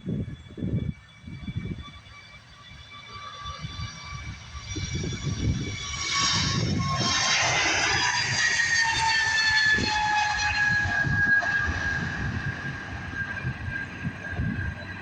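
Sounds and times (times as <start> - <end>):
jet engines whining: 0.0 - 15.0
low jet rumble: 0.0 - 15.0.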